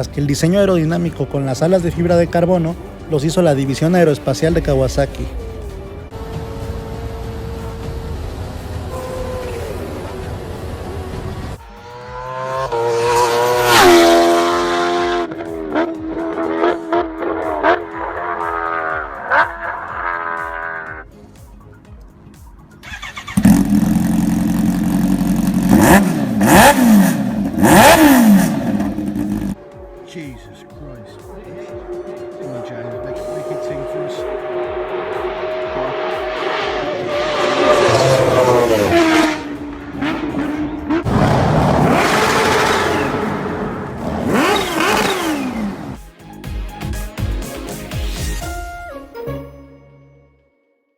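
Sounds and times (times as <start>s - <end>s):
motorcycle engine idling and revving: 0.0s - 46.4s
music: 0.0s - 50.9s.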